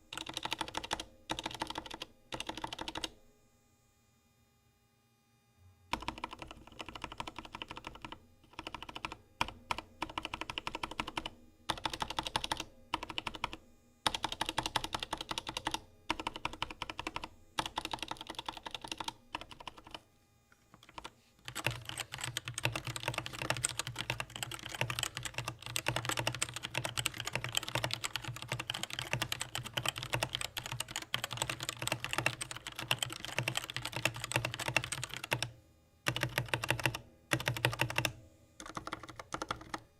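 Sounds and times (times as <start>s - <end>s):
typing on mechanical keyboard: 0.1s - 3.1s, 5.9s - 20.0s, 20.7s - 35.5s, 36.1s - 39.9s.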